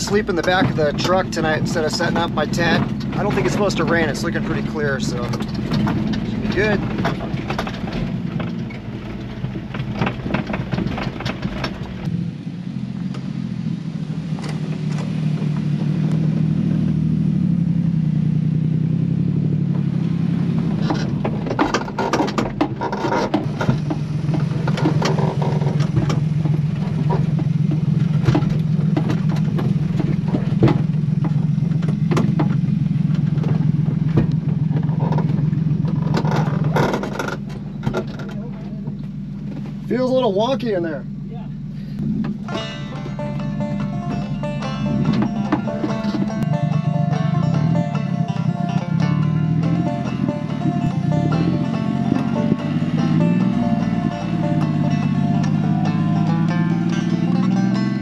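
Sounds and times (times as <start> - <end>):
cab knocks and rattles: 0.0 - 12.1, 19.6 - 40.9, 41.5 - 58.0
small truck engine running: 0.0 - 58.0.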